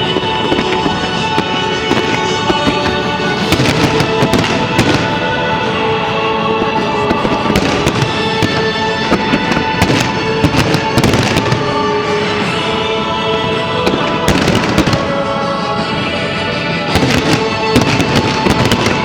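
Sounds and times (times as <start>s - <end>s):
fireworks bangs and crackles: 0.0s - 19.0s
loud music with held notes: 0.0s - 19.0s.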